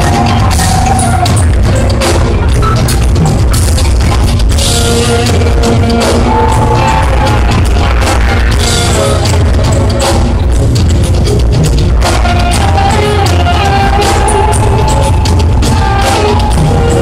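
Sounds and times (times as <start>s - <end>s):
deep bass: 0.0s - 17.0s
drum kit beat: 0.0s - 17.0s
electric guitar: 0.0s - 17.0s
live rock band: 0.0s - 17.0s.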